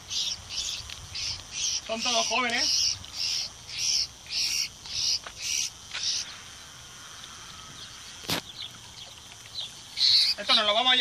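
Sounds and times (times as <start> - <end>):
young sparrows chirping: 0.0 - 11.0.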